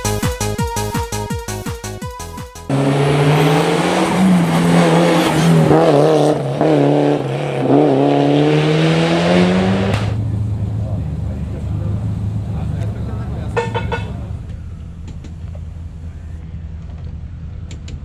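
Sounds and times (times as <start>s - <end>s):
rally car engine revving high: 2.7s - 17.7s.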